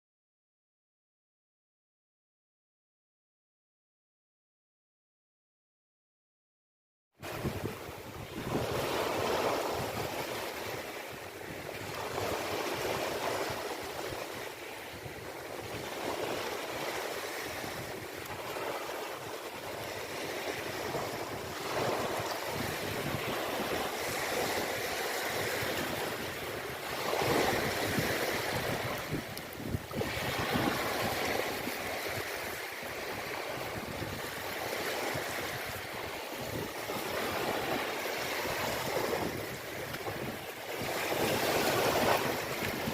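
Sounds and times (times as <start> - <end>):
ocean waves washing in: 7.2 - 42.9
wind: 7.2 - 42.9.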